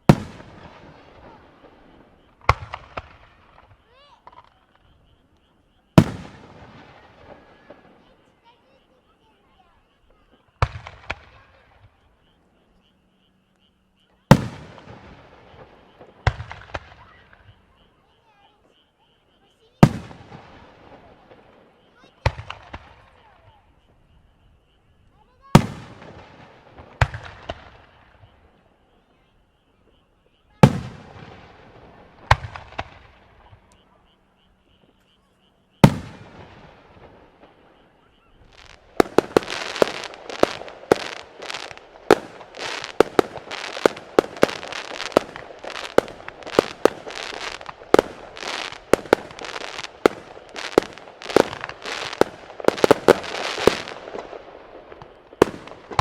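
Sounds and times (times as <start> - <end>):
fireworks booms: 0.0 - 12.4, 14.2 - 18.8, 19.7 - 56.0
fireworks barrage crackling: 0.0 - 12.9, 14.0 - 56.0.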